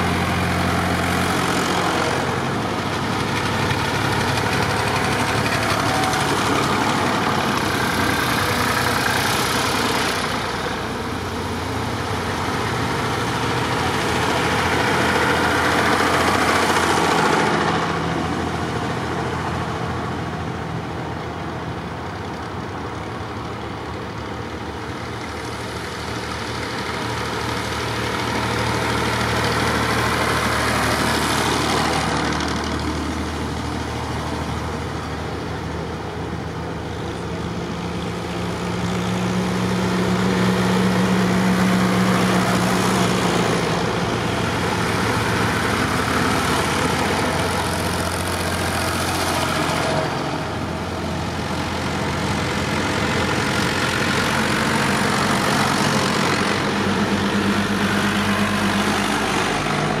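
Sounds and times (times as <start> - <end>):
tractor engines passing: 0.0 - 60.0.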